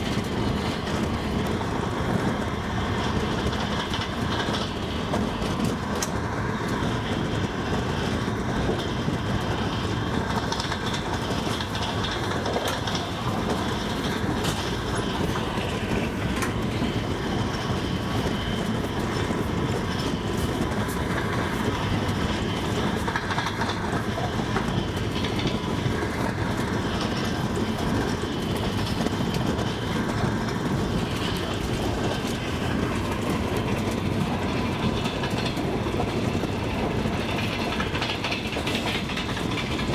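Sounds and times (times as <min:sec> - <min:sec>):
train wheels rumbling on rails: 0:00.0 - 0:39.9
wheels clacking over rail joints: 0:00.0 - 0:39.9.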